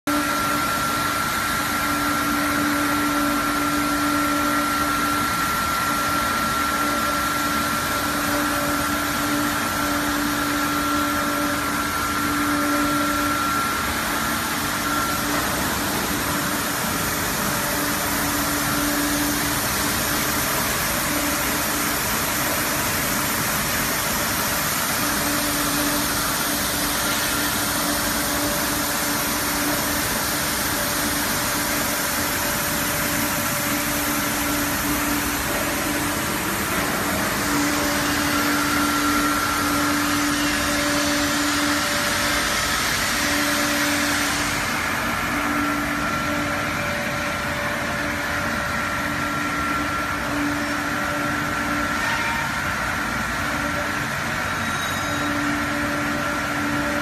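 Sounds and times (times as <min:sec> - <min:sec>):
bottle washing machine whirring: 0:00.1 - 0:57.0.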